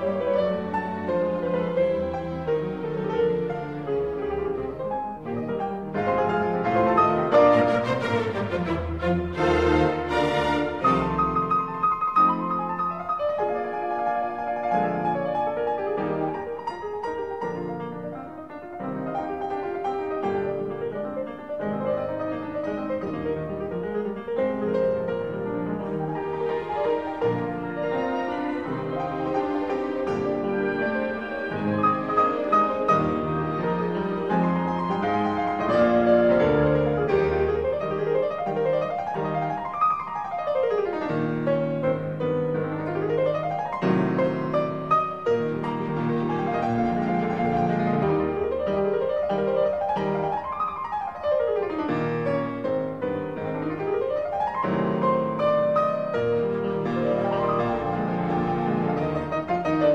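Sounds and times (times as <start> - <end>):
piano background music: 0.0 - 59.9.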